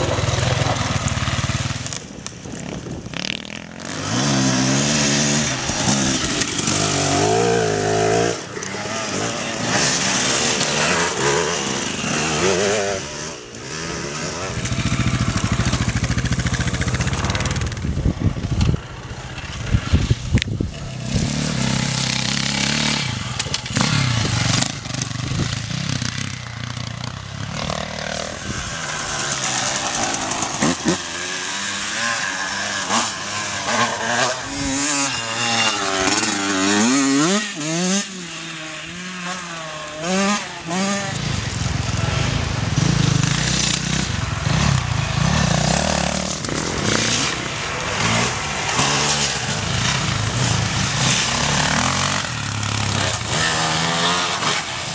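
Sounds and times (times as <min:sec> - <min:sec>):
motorcycle engines revving: 0:00.0 - 0:54.9.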